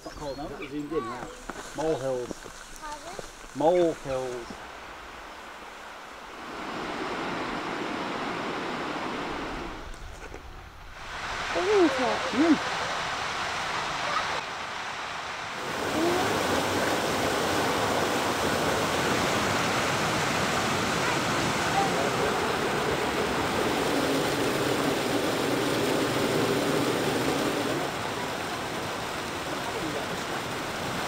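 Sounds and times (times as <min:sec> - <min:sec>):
waterfall rushing: 0:00.0 - 0:09.9, 0:10.9 - 0:31.0.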